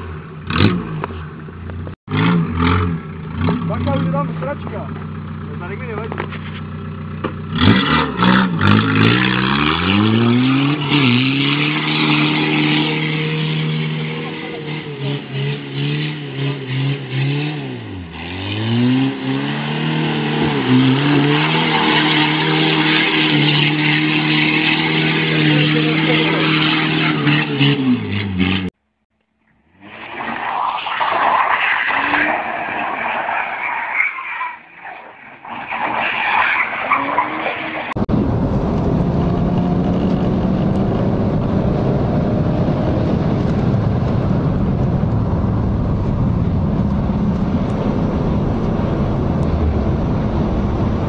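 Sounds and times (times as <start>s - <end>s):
car engine revving: 0.0s - 28.8s, 29.6s - 51.0s.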